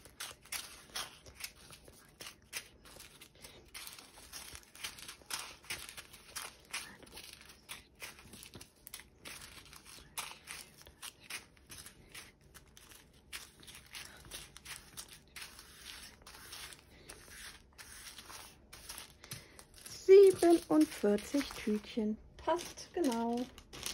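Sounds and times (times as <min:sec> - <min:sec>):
plastic bags crinkling: 0:02.7 - 0:23.9.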